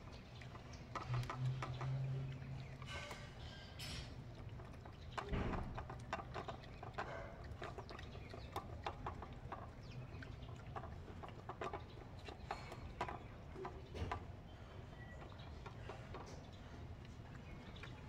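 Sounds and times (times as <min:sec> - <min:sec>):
puppies chewing and lapping: 0:00.0 - 0:18.0.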